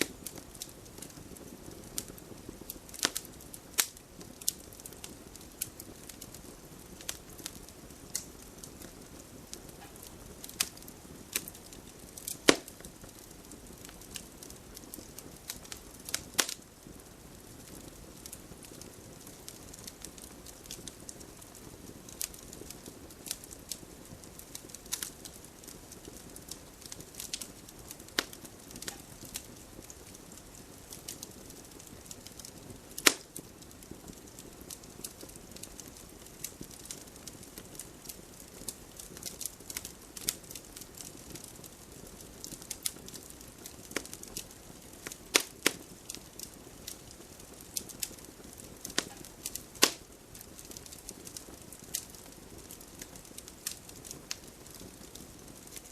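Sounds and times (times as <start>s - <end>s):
fire crackling and popping: 0.0s - 55.9s
soft hiss of flame: 0.0s - 55.9s.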